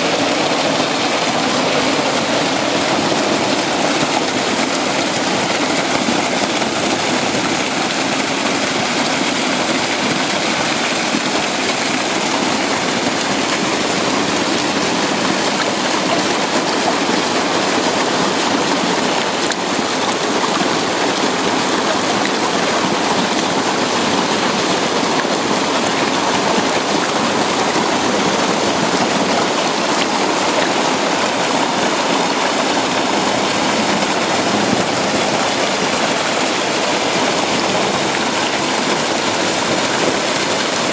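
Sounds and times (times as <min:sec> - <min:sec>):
water gushing over a boulder: 0:00.0 - 0:40.9.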